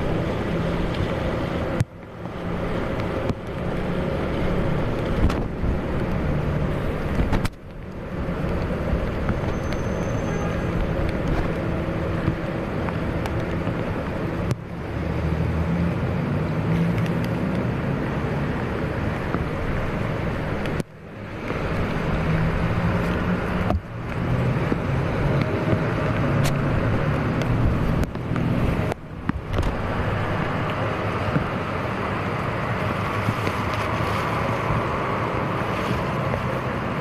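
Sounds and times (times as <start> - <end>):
low rumbling outdoor noise: 0.0 - 37.0.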